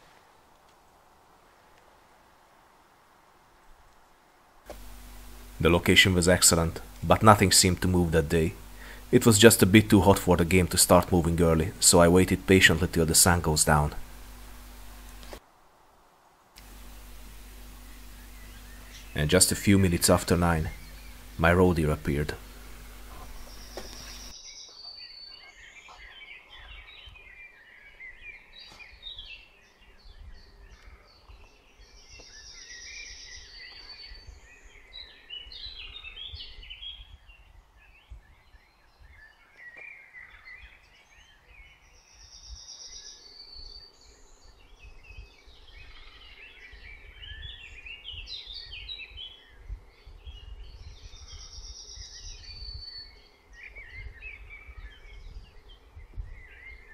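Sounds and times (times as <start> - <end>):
birds chirping: 4.7 - 15.4, 16.6 - 56.9.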